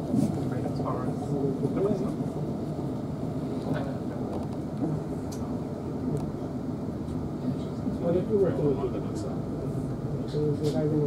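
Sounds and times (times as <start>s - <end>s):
train rumble from inside carriage: 0.0s - 11.0s.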